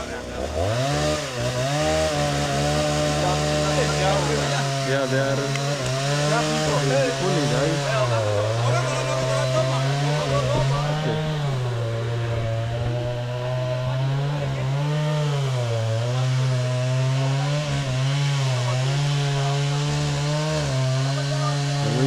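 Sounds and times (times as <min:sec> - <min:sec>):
chainsaw cutting into tree: 0:00.0 - 0:22.0.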